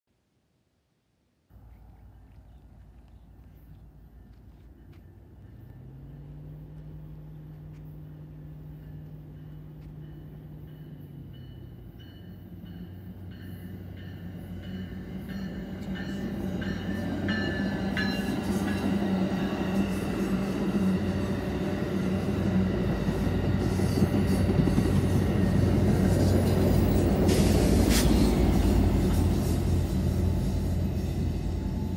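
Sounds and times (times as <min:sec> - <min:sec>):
low diesel locomotive hum: 0:01.5 - 0:31.9
rush of passing train cars: 0:01.6 - 0:31.9
train wheel and rail noise: 0:01.6 - 0:31.9.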